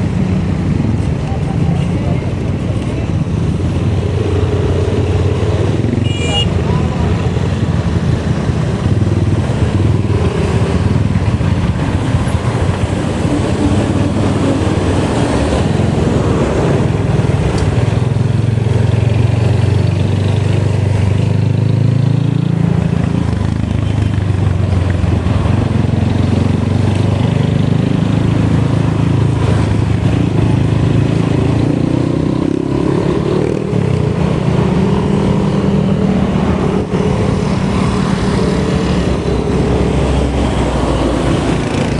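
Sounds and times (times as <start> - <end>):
wind and road noise: 0.0 - 41.9
motorcycle engine revving: 3.1 - 41.9.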